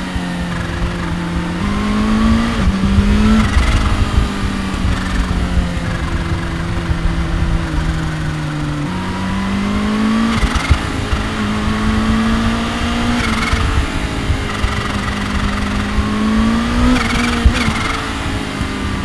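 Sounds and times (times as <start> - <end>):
motorcycle engine running: 0.0 - 19.0
dense low rumble: 0.5 - 17.8.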